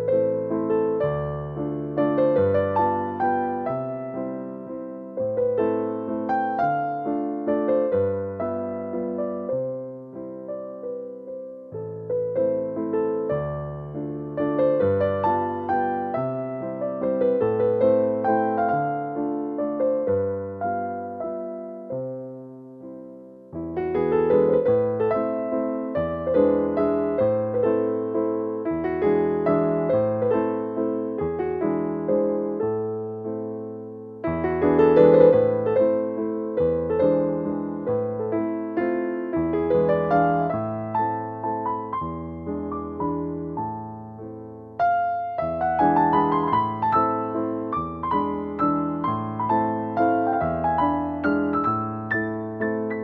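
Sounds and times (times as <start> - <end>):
gentle slow piano music: 0.0 - 53.0.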